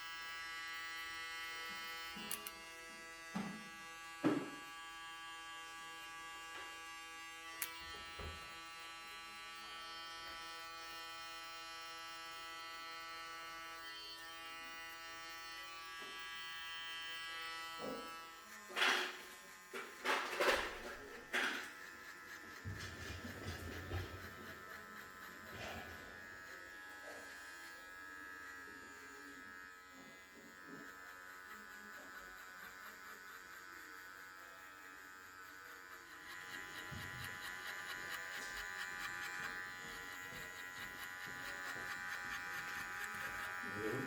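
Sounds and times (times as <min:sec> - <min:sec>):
electric hair clippers buzzing: 0:00.0 - 0:44.0.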